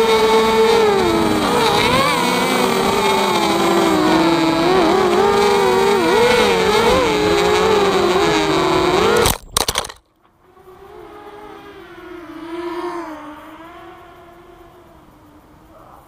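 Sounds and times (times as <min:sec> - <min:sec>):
quadcopter motors whining: 0:00.0 - 0:15.8.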